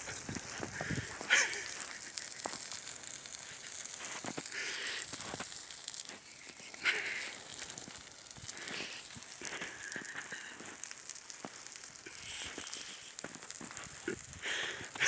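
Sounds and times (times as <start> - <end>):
fire crackling and popping: 0.0 - 15.0
fire hissing: 0.0 - 15.0.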